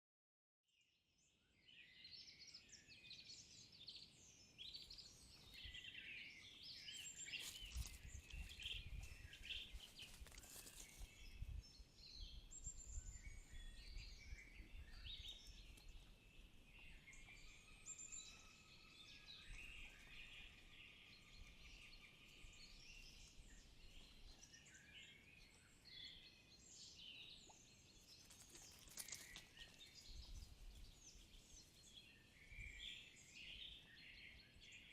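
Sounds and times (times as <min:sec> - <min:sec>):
songbirds chirping and trilling: 0:01.1 - 0:34.9.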